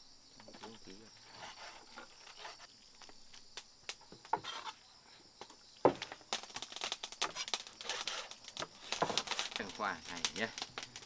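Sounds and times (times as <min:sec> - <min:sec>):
crackling and rustling: 0:00.4 - 0:11.0.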